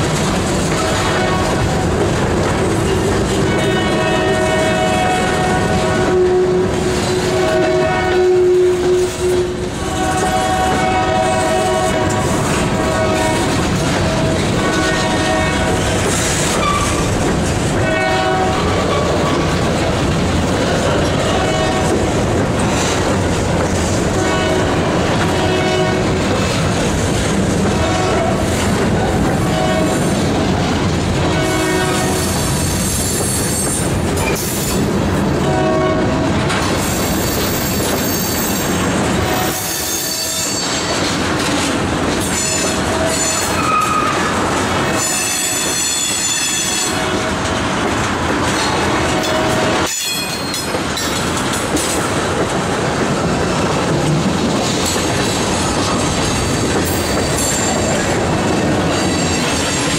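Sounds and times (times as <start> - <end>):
steel wheels rumbling on rail: 0.0 - 59.9
wheels clacking over rail joints: 0.0 - 59.9.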